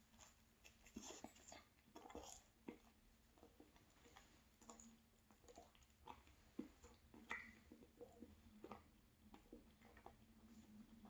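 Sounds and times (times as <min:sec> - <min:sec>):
quiet chewing on pastry: 0:00.0 - 0:11.0.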